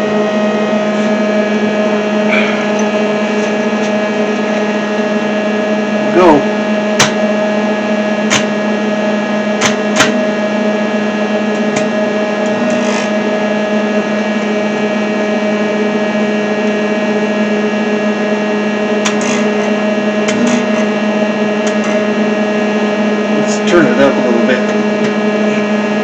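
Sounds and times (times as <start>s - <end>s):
welder transformer humming: 0.0s - 26.0s.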